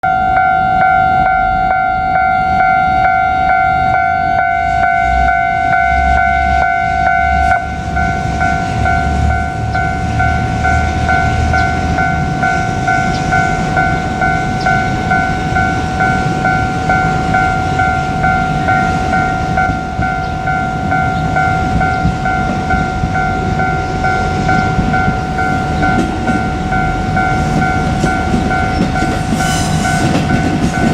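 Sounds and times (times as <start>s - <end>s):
diesel railcar engine rumble: 0.0s - 30.9s
level crossing electronic bell: 0.0s - 30.9s.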